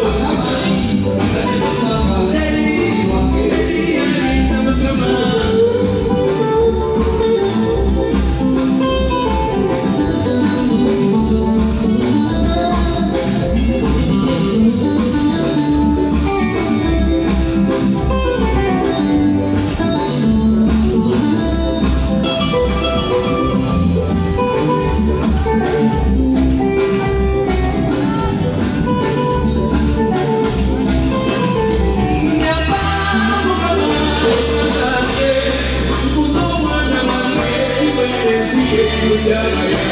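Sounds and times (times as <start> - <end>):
band music with guitar: 0.0 - 39.9
repeating bass beat: 0.0 - 39.9.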